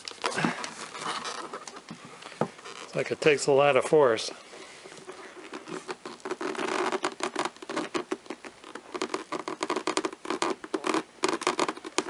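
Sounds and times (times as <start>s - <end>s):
glove fabric and plastic crackling: 0.0s - 12.0s.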